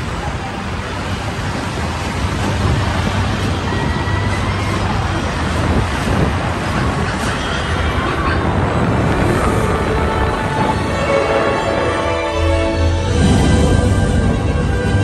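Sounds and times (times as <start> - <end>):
low rumble: 0.0 - 15.0
wind rushing: 0.0 - 15.0.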